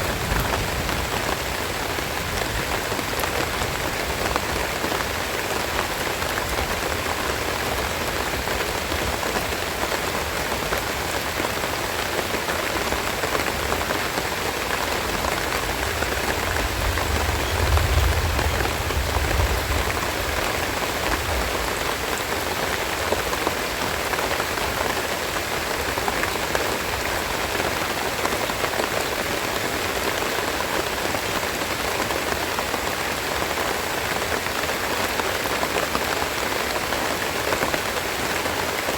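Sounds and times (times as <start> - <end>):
rain falling and pattering: 0.0 - 38.9.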